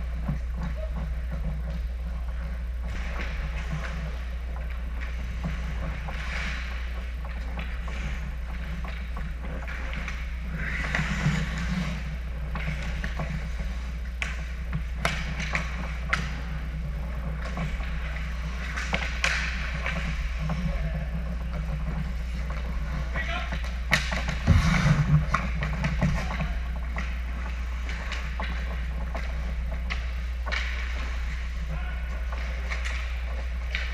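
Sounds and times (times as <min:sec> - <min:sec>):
hockey sticks and puck clacking: 0:00.0 - 0:33.9
low rink hum: 0:00.0 - 0:33.9
skate blades scraping ice: 0:00.0 - 0:33.9.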